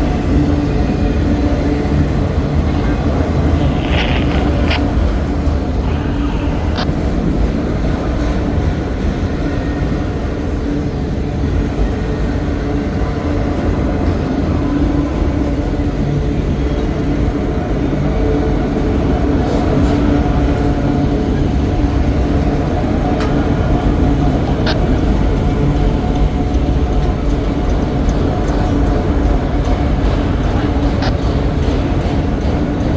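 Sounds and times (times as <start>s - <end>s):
freight train wheels rumbling: 0.0s - 32.9s.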